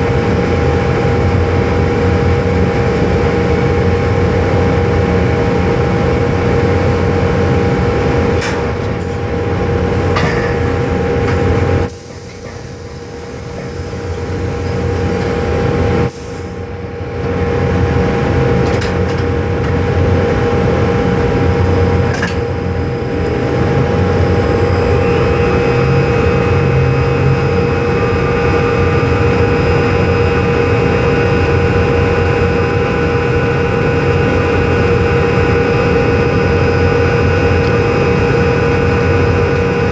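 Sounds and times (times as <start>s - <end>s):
drilling machinery drone: 0.0s - 39.9s.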